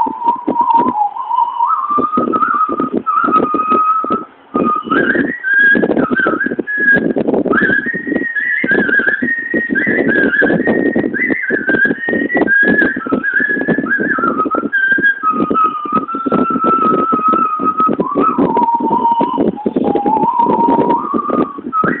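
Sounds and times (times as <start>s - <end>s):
woman whistling a tune: 0.0s - 22.0s.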